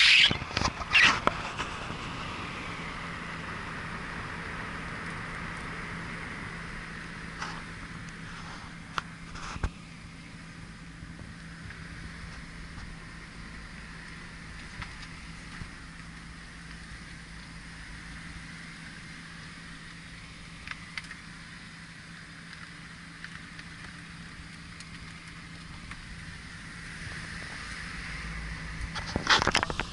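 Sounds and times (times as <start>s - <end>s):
car engine and tyres humming: 0.0s - 29.9s.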